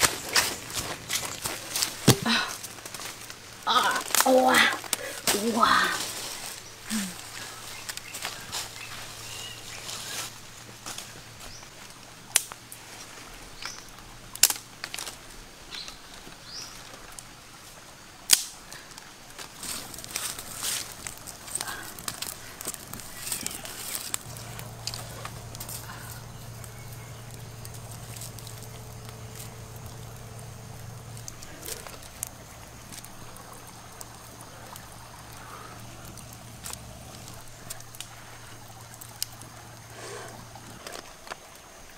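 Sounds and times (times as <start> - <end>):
fire hissing and crackling: 0.0 - 41.9
quiet outdoor background noise: 0.0 - 41.9.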